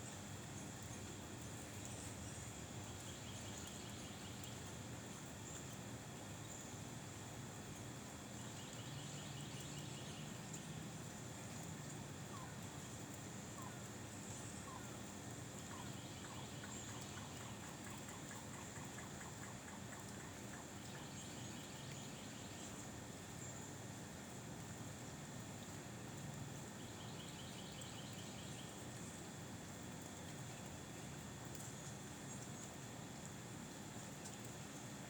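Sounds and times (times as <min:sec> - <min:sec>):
steady high-pitched hiss: 0:00.0 - 0:35.0.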